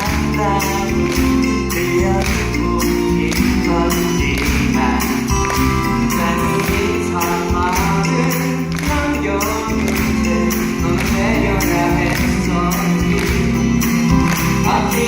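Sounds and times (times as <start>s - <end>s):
band accompaniment: 0.0s - 15.0s
people singing: 0.0s - 15.0s
steady percussion beat: 0.0s - 15.0s.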